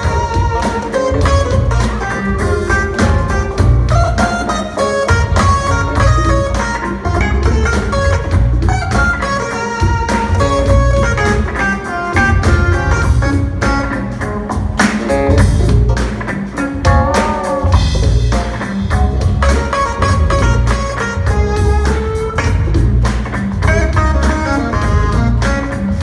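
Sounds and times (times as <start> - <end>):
live jazz-funk band playing: 0.0 - 26.0.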